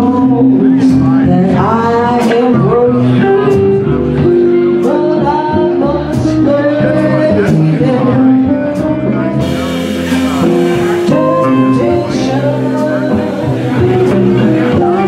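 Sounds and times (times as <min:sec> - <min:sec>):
electric guitar with bent notes: 0:00.0 - 0:15.0
live band playing: 0:00.0 - 0:15.0.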